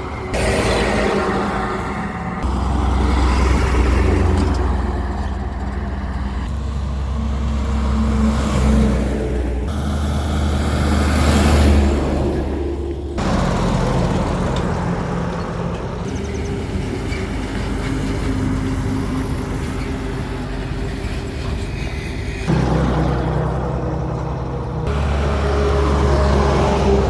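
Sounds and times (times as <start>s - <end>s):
heavy truck engines humming: 0.0s - 27.0s
road noise: 0.0s - 27.0s.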